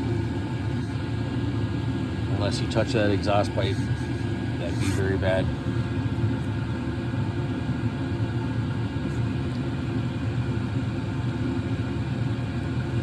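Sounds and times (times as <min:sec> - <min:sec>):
heater running low rumble: 0:00.0 - 0:13.0.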